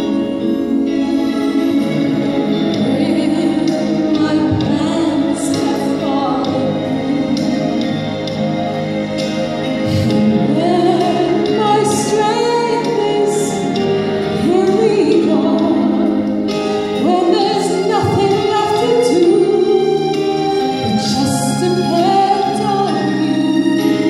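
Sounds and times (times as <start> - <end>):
woman singing slow melody: 0.0 - 8.4, 9.8 - 20.0, 20.8 - 24.0
sustained accompaniment: 0.0 - 24.0.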